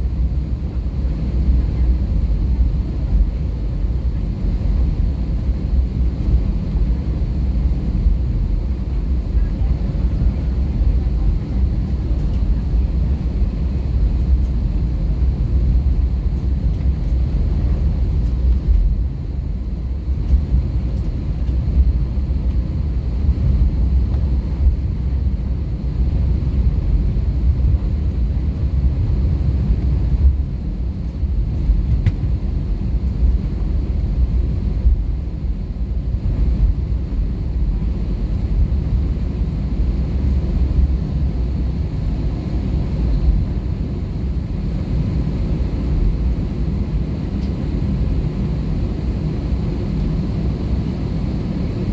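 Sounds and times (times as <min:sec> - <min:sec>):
aircraft cabin engine rumble: 0:00.0 - 0:51.9.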